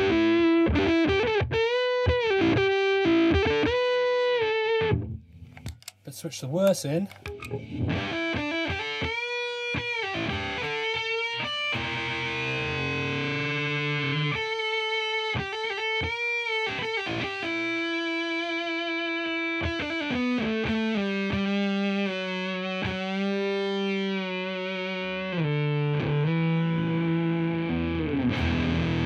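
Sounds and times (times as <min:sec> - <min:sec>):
fuzz electric guitar notes with bends: 0:00.0 - 0:05.2, 0:07.3 - 0:29.0.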